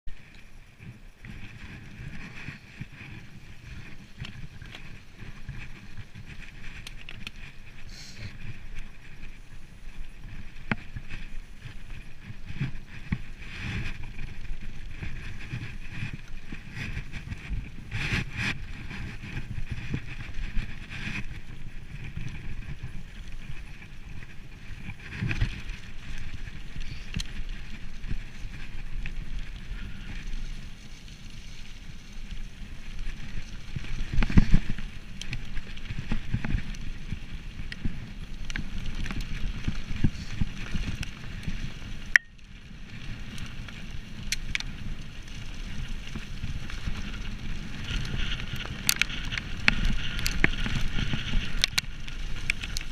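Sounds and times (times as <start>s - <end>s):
bike rattling over bumps: 0.1s - 52.9s
bike tyre rumble on dirt: 0.1s - 52.9s.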